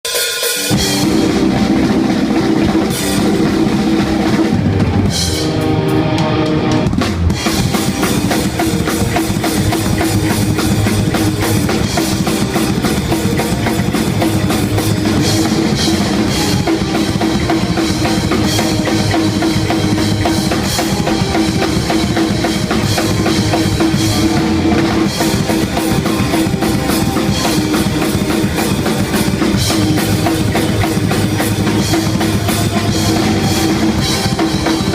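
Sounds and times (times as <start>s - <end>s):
fast drum kit hits: 0.0s - 34.9s
hardcore band playing: 0.0s - 34.9s.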